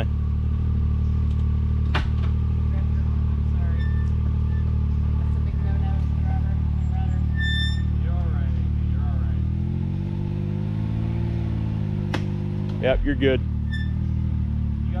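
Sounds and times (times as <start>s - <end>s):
engine idling: 0.0s - 10.5s, 11.2s - 15.0s.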